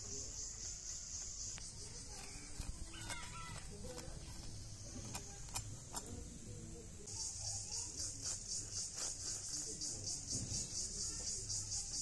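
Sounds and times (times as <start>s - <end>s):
insect buzz: 0.0s - 12.0s.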